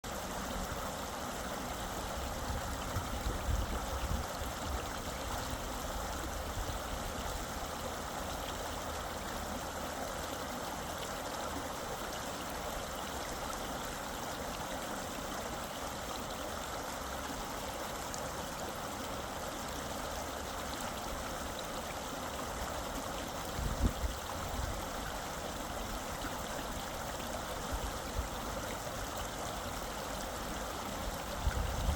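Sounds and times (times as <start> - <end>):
stream flowing over stones: 0.0 - 31.9.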